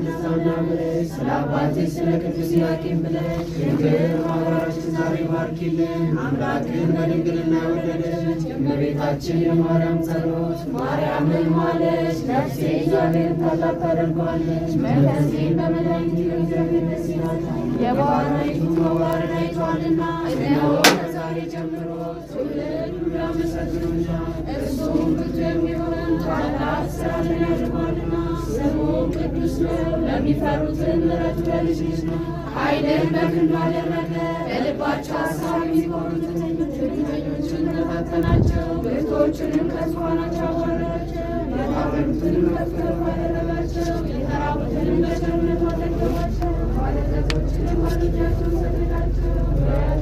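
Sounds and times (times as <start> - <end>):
group chanting a hymn: 0.0 - 50.0
low steady hum: 0.0 - 50.0.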